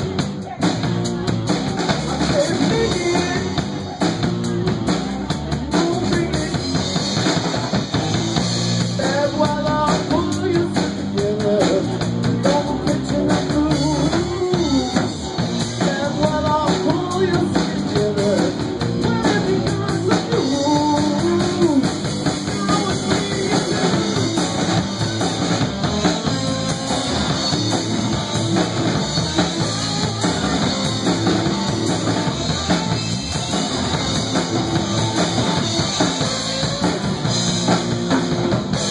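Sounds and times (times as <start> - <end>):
bending lead guitar line: 0.0 - 38.9
live rock band playing: 0.0 - 38.9.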